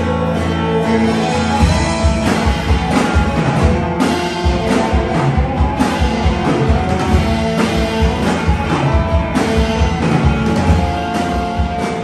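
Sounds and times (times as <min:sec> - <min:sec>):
guitar: 0:00.0 - 0:12.0
rock band playing live: 0:00.0 - 0:12.0
steady drum beat: 0:00.6 - 0:12.0.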